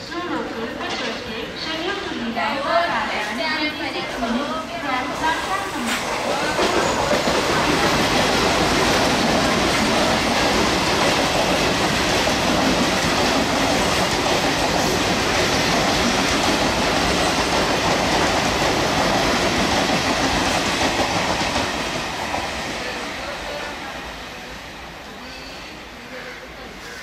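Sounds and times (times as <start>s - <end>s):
train wheels on track: 0.0s - 27.0s.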